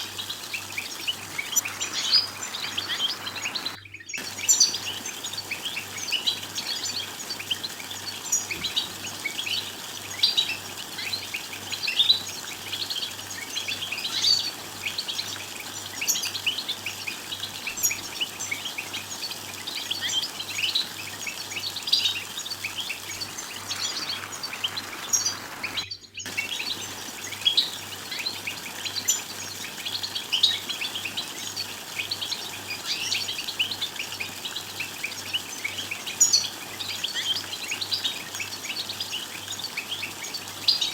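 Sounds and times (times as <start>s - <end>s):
finch twittering: 0.0s - 40.9s.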